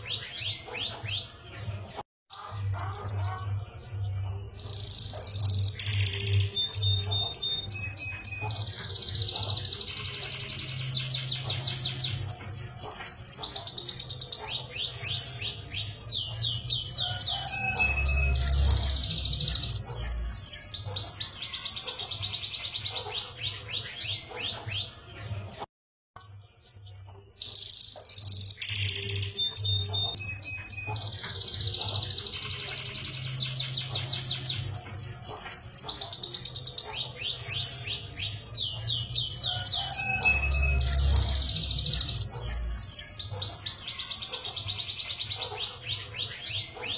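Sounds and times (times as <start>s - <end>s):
canary singing: 0.0s - 25.6s, 26.2s - 46.9s.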